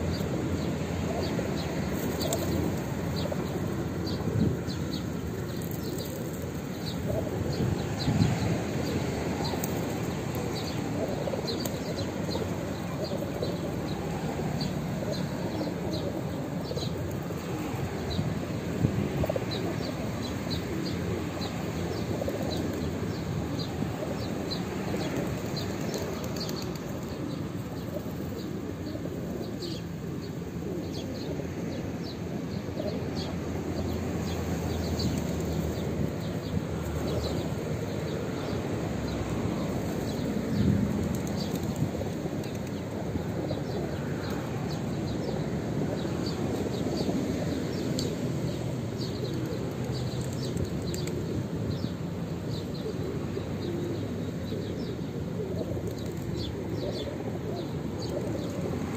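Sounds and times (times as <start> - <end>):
pigeons cooing: 0.0 - 31.9, 36.0 - 48.1, 52.5 - 58.9.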